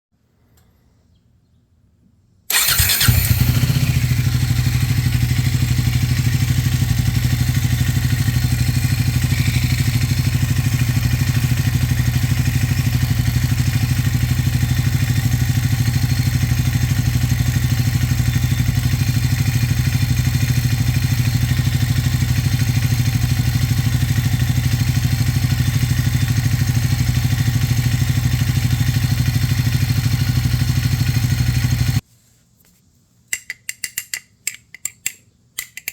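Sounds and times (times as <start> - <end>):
motorcycle engine idling: 2.5 - 32.0.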